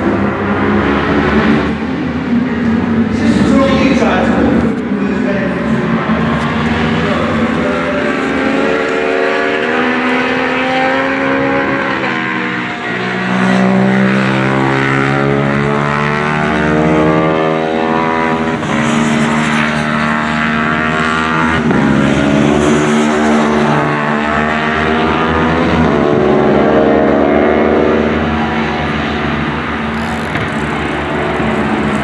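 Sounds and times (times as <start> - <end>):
racing motorcycles passing: 0.0 - 32.0.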